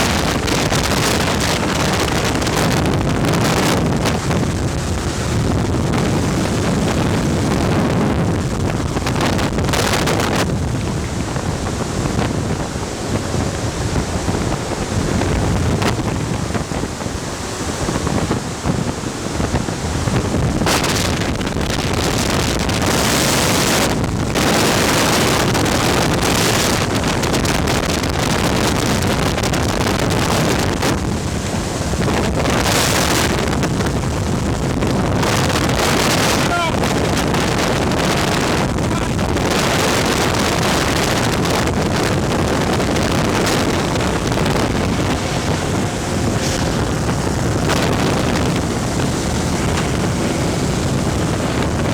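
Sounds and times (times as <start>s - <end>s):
rushing airflow from ventilation fan: 0.0s - 51.9s
wind buffeting microphone: 0.0s - 51.9s.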